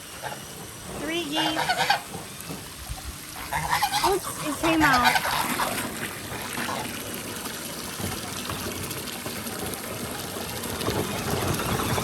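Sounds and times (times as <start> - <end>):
water running from a hose: 0.0 - 12.0.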